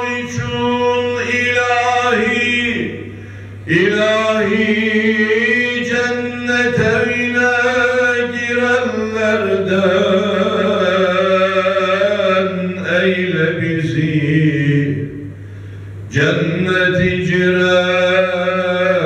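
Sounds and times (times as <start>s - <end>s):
man singing: 0.0s - 3.1s, 3.7s - 15.2s, 16.1s - 19.0s
steady low hum: 0.0s - 19.0s.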